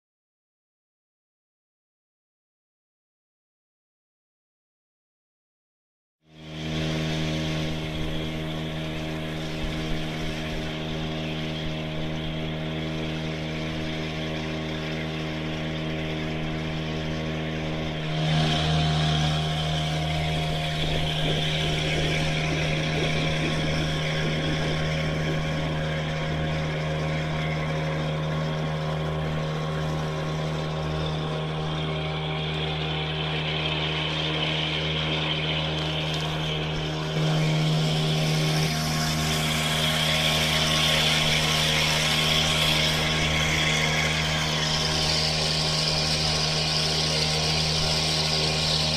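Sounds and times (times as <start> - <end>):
small boat motor running: 6.2 - 48.9
water rushing along hull: 6.3 - 48.9.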